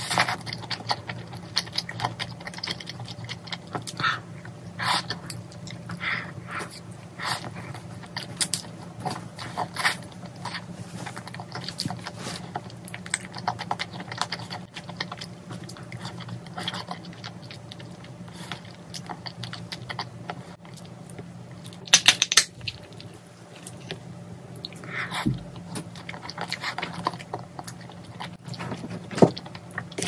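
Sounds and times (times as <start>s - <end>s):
faint low hum: 0.0s - 30.0s
chewing with wet smacking: 0.1s - 30.0s.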